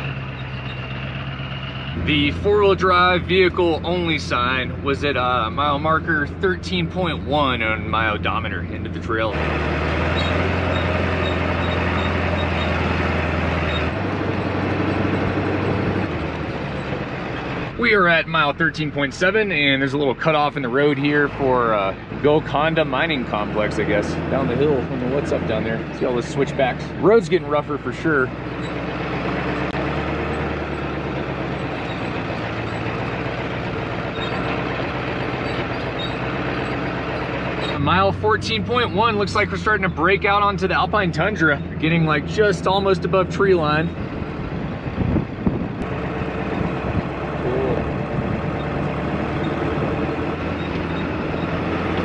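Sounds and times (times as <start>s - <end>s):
diesel truck engine droning: 0.0s - 52.0s.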